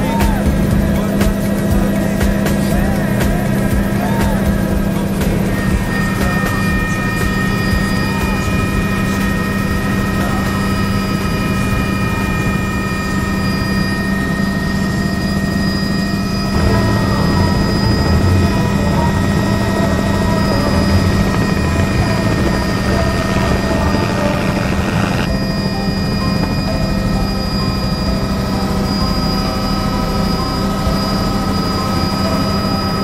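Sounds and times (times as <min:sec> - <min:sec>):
helicopter cabin drone and whine: 0:00.0 - 0:33.0
helicopter flying low past: 0:00.0 - 0:33.0.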